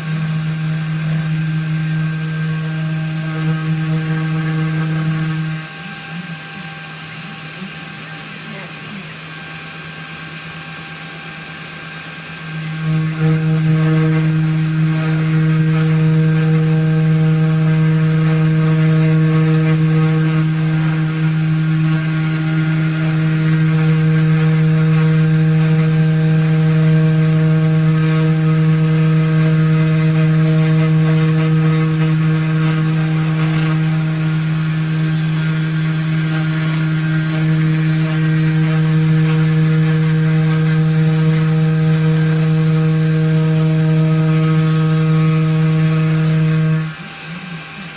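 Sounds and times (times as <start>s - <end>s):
router spindle motor humming: 0.0s - 47.9s.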